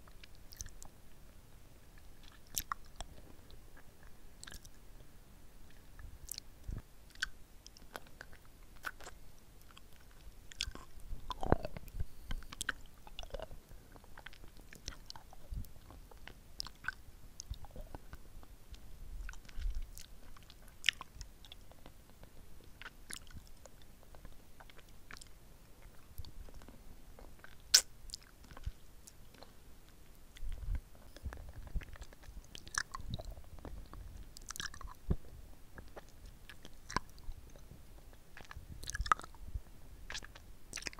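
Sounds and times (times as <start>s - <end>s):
mouth eating lollipop: 0.0s - 0.9s, 2.0s - 4.8s, 5.7s - 39.4s, 40.1s - 40.9s
lip smacks and sucking: 0.1s - 0.9s, 2.2s - 3.2s, 3.8s - 4.8s, 5.7s - 35.2s, 35.8s - 39.4s, 40.1s - 40.9s.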